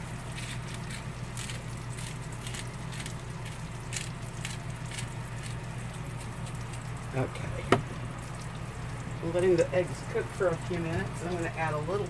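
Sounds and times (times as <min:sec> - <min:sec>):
steady low hum: 0:00.0 - 0:12.0
eggs sizzling in a pan: 0:01.0 - 0:12.0.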